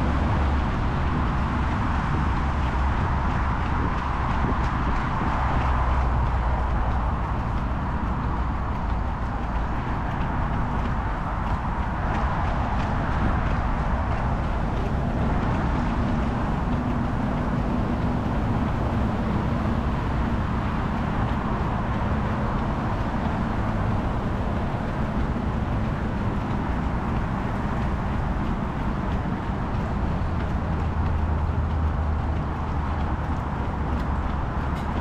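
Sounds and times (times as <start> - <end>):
runners' footfalls: 0.0 - 35.0
wind buffeting microphone: 0.0 - 35.0.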